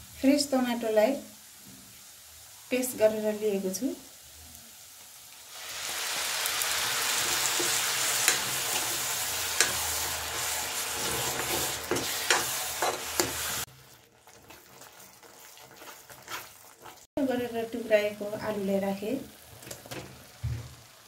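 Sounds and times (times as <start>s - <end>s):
tomato paste sizzling in oil: 0.0s - 21.0s.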